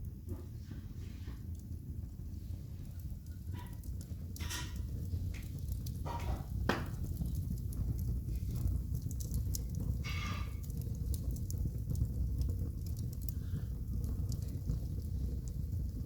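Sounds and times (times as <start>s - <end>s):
fire flames rumbling: 0.0s - 16.0s
logs crackling and popping: 1.4s - 16.0s.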